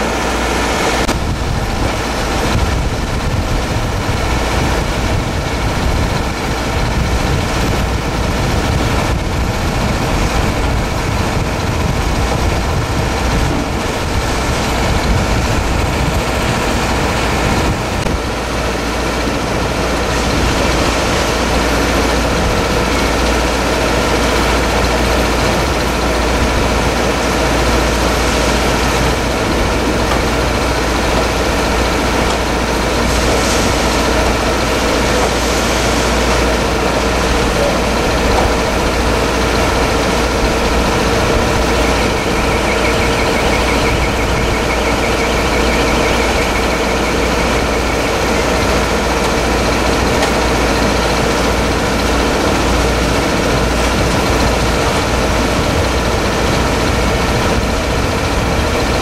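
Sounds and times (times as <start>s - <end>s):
heavy engine running steadily: 0.0s - 59.0s.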